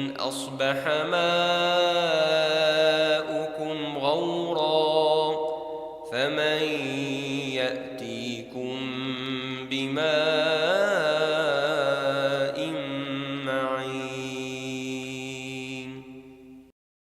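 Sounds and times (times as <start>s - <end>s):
man chanting recitation: 0.0s - 16.2s.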